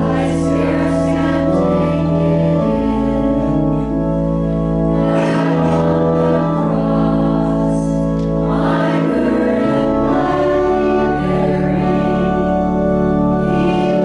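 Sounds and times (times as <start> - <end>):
group singing a hymn: 0.0 - 14.0
organ chords: 0.0 - 14.0.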